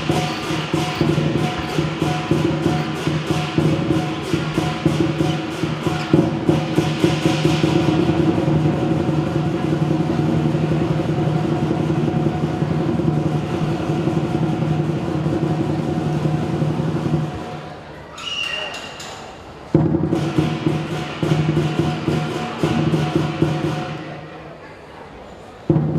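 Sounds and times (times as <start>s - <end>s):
drum cymbals and gong playing fast: 0.0s - 17.8s, 19.8s - 24.4s.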